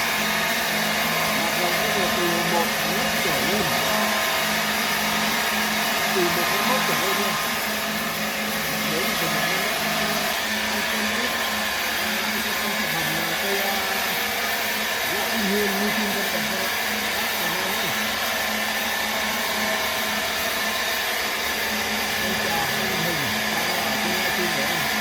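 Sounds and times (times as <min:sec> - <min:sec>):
machine whirring: 0:00.0 - 0:25.0.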